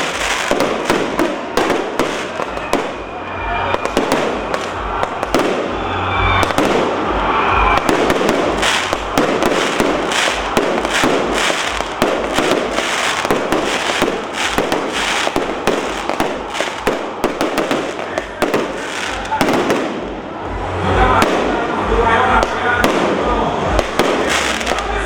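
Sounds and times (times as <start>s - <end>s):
firecrackers popping: 0.0s - 20.5s, 21.1s - 25.0s.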